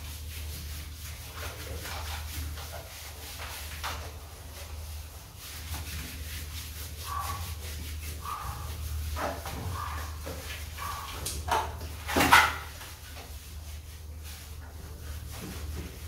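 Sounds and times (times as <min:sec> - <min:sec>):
hands rubbing lather through fur: 0:00.0 - 0:16.0.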